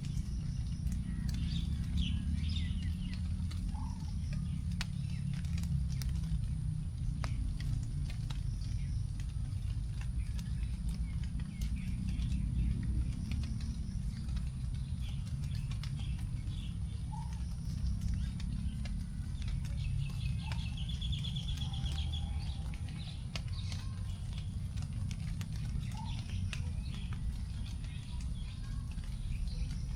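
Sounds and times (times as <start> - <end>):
raindrops pattering on leaves: 0.0 - 29.9
steady low rumble: 0.0 - 29.9.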